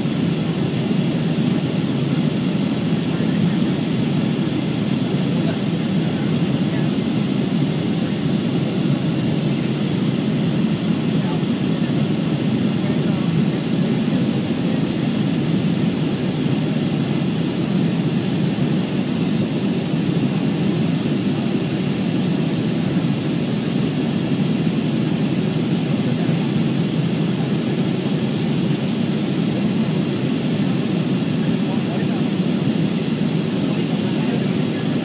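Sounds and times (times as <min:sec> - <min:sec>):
airplane cabin roar: 0:00.0 - 0:35.0.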